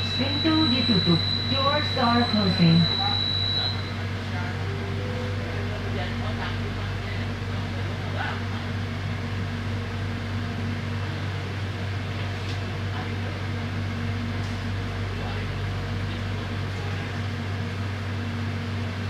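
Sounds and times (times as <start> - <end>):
train carriage low hum: 0.0 - 19.0.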